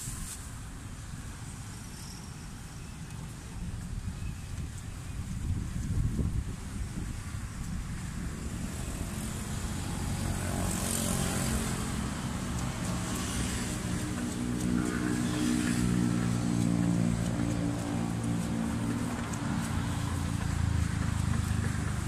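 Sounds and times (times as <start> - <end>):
vehicle engine humming: 3.1 - 22.0.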